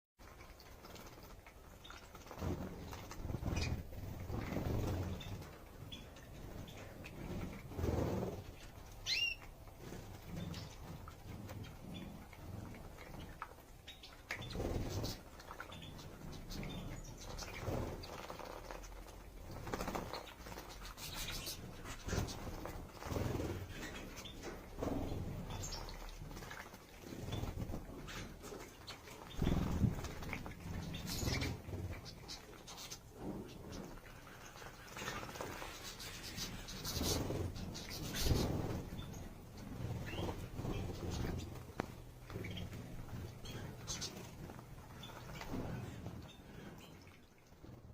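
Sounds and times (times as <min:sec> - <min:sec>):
birds splashing in water: 0:00.2 - 0:47.9
wings fluttering: 0:00.2 - 0:47.9
canaries chirping: 0:00.6 - 0:47.1.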